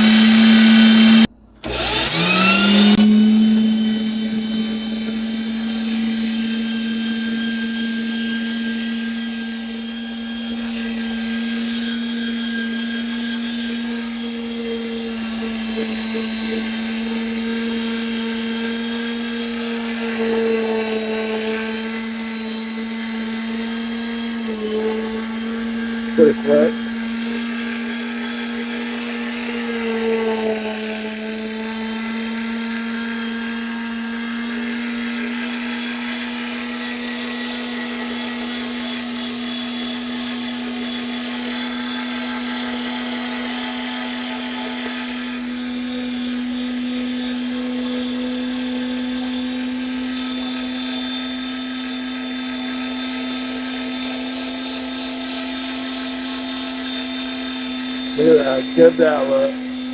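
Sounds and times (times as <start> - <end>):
electric meat grinder motor: 0.0 - 59.9.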